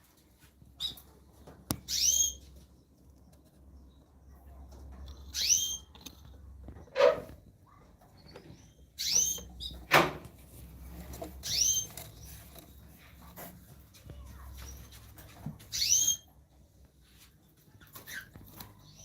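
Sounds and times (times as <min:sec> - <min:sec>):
caged birds calling: 0:00.7 - 0:13.8, 0:14.4 - 0:16.6, 0:17.7 - 0:19.0.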